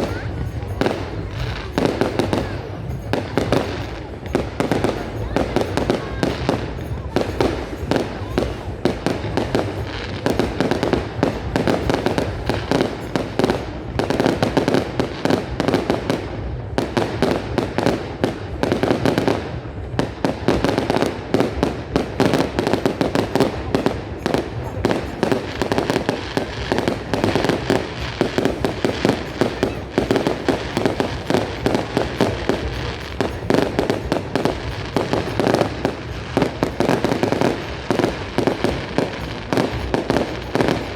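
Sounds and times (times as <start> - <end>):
fireworks exploding: 0.0 - 40.9.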